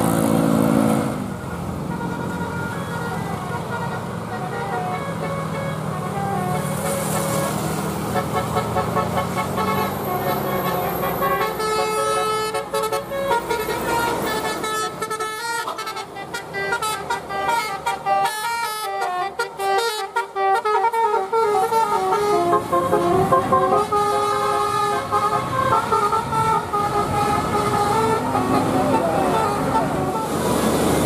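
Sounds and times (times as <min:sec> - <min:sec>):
buses passing: 0:00.0 - 0:31.0
multi-tone bus horns playing melody: 0:00.0 - 0:31.0.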